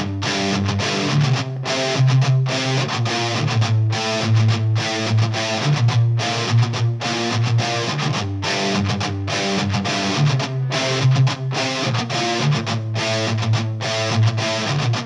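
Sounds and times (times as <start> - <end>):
distorted electric guitar: 0.0 - 15.0
steady rock beat: 0.0 - 15.0.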